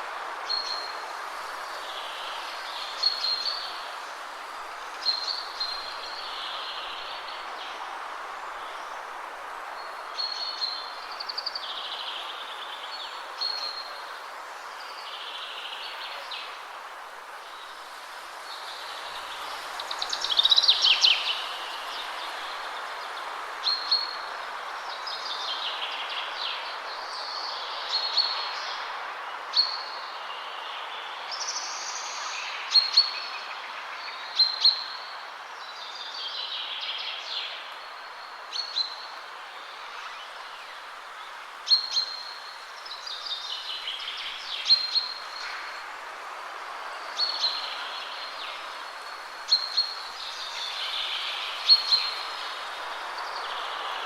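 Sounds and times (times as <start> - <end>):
wind through trees: 0.0 - 54.0.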